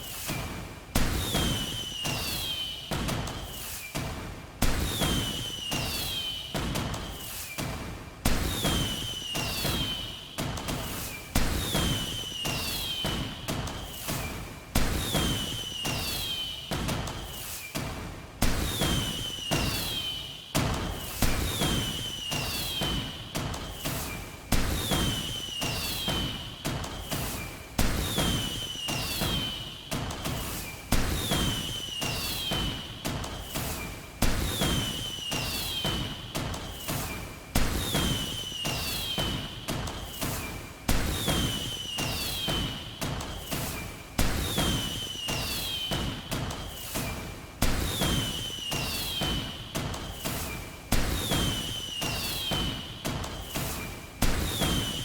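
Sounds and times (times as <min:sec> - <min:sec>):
falling firework whistle: 0:00.0 - 0:17.8, 0:18.4 - 0:55.0
fireworks bangs: 0:08.3 - 0:10.1, 0:10.7 - 0:17.6, 0:18.4 - 0:55.0.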